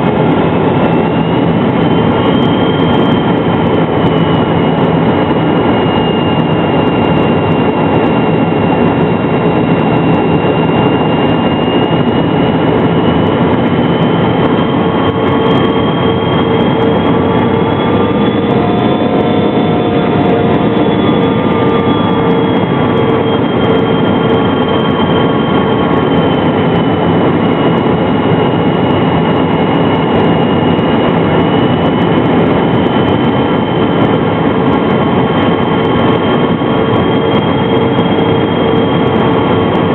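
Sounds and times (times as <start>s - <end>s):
airliner engine rumble: 0.0s - 39.9s
high engine whine: 0.0s - 39.9s.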